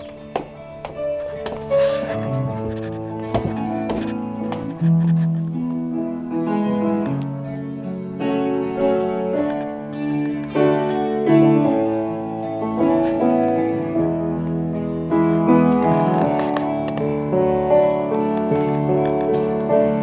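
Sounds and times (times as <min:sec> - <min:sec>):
guitar playing held chords: 0:00.0 - 0:20.0
keyboard playing held chords: 0:00.0 - 0:20.0.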